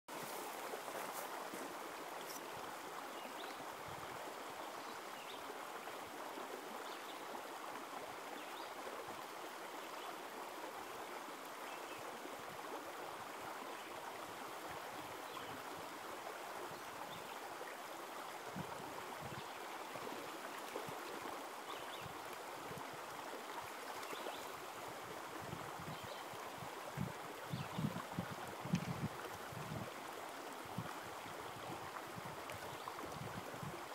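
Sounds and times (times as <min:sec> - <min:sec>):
creek water running over rocks: 0:00.1 - 0:33.9.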